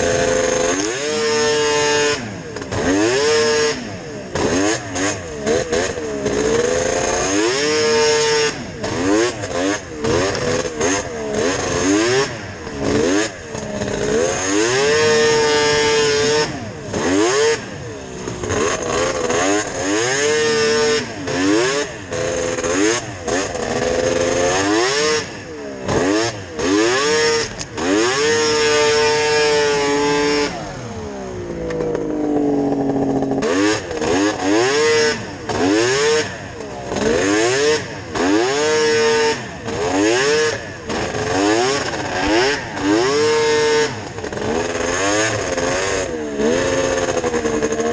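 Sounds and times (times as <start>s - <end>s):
two-stroke snowmobile engine revving: 0.0s - 47.9s.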